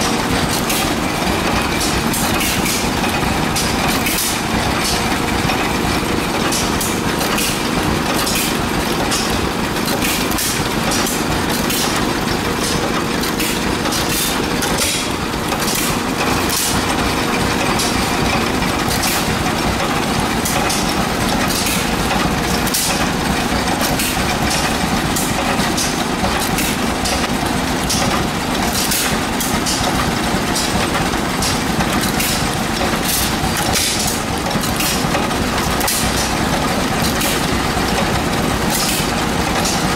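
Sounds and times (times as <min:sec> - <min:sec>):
old stationary engines running: 0:00.0 - 0:39.9
exhaust pops and clicks: 0:06.4 - 0:39.9.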